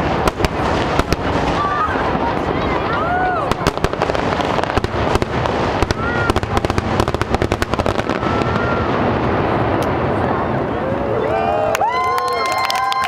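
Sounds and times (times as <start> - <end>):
fireworks bangs and crackles: 0.0 - 11.4.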